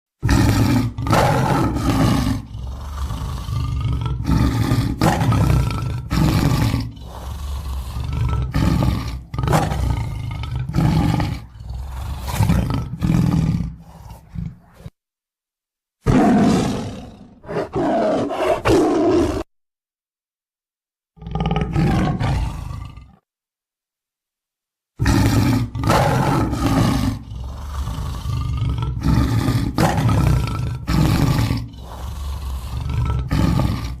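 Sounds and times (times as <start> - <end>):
tiger roaring: 0.2 - 15.0, 16.0 - 19.5, 21.2 - 23.2, 25.0 - 34.0.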